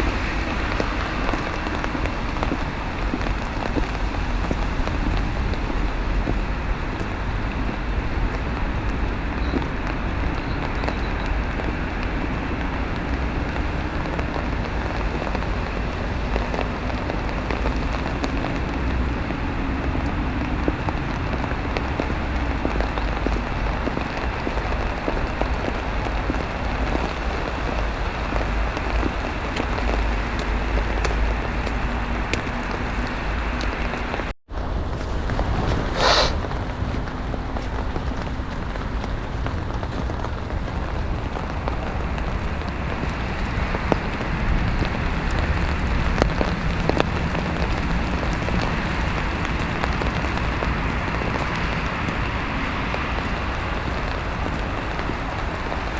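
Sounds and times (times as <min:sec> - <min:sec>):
rain and sleet pattering: 0:00.0 - 0:35.8, 0:36.4 - 0:55.9.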